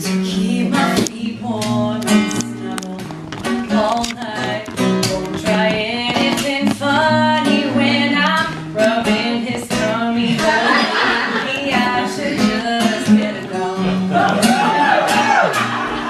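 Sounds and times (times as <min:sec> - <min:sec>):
woman singing: 0:00.0 - 0:14.7
strummed acoustic guitar: 0:00.0 - 0:16.0.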